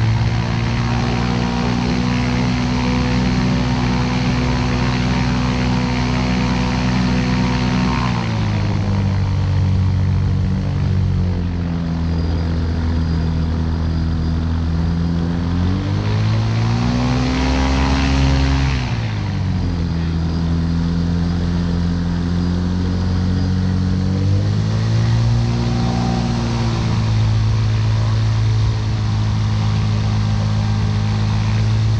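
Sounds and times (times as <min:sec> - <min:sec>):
aircraft engine and propeller: 0:00.0 - 0:31.9.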